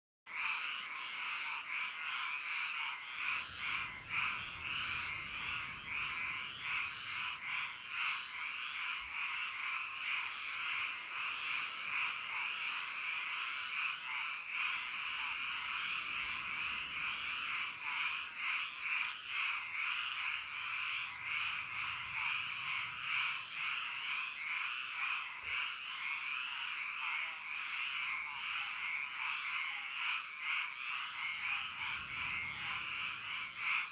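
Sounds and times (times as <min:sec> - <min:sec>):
frogs croaking in chorus: 0:00.3 - 0:33.9.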